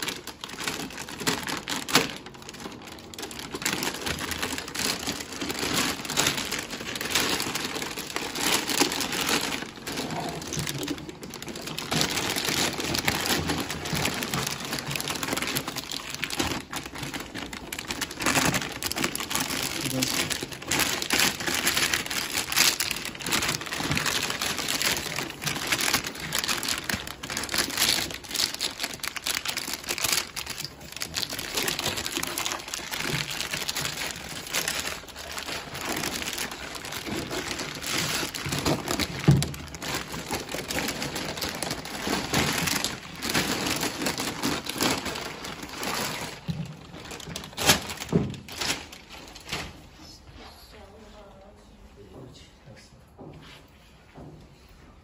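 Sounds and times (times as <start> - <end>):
plastic and foil packaging crinkling: 0.0 - 51.4.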